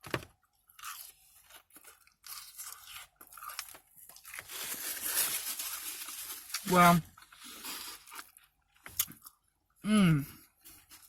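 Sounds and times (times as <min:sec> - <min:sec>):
chewing crunchy fried food: 0:00.4 - 0:11.0.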